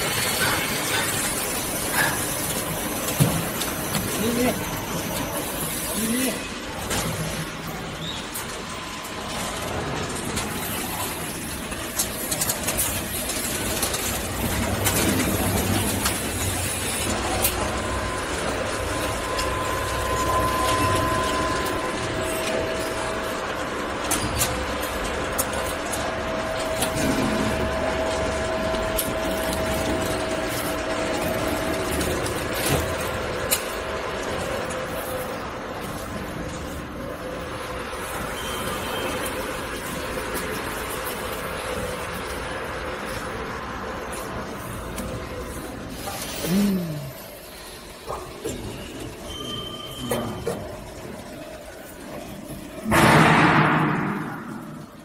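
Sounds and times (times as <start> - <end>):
production line machinery running: 0.0 - 55.0.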